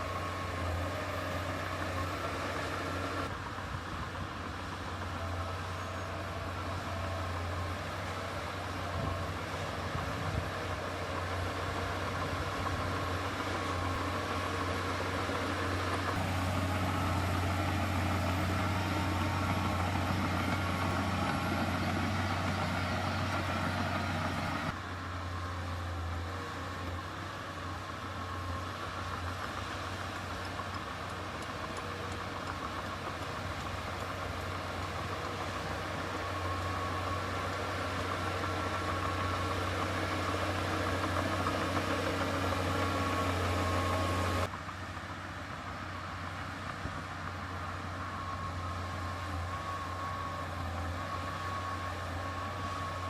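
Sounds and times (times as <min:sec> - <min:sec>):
diesel machinery engine hum: 0:00.0 - 0:53.0.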